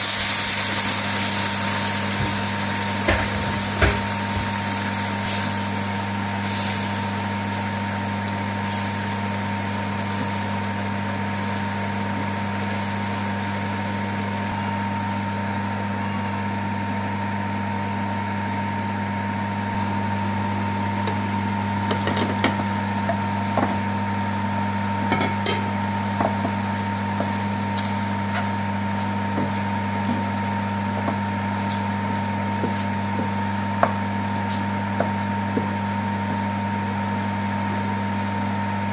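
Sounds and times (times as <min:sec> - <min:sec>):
gravy sizzling in a frying pan: 0:00.0 - 0:15.8, 0:19.8 - 0:38.0
steady low hum: 0:00.0 - 0:38.9.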